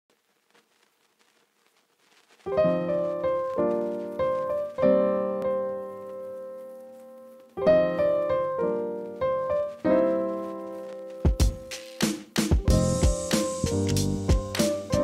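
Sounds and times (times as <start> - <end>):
piano chords: 2.5 - 15.0.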